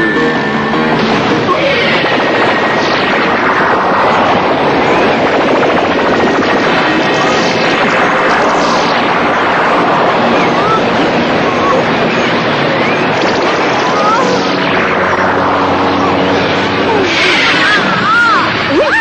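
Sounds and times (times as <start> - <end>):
loud rushing roar: 0.0 - 19.0
whooshes falling in pitch: 0.0 - 19.0.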